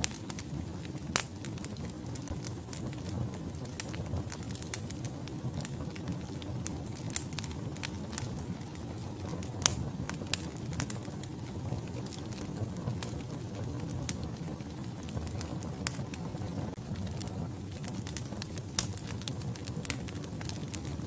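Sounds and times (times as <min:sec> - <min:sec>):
fire crackling and popping: 0:00.0 - 0:21.0
low rumble of flame: 0:00.0 - 0:21.0.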